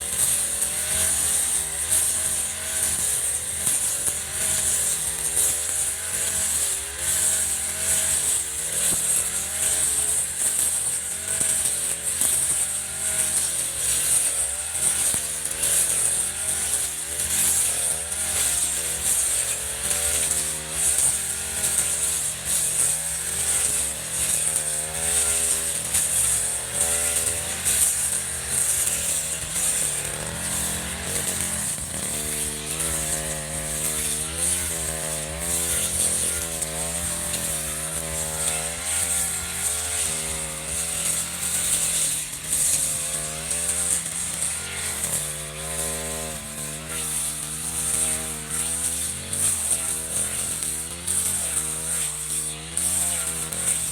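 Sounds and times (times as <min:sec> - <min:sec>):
brush cutter engine running: 0:00.0 - 0:53.9.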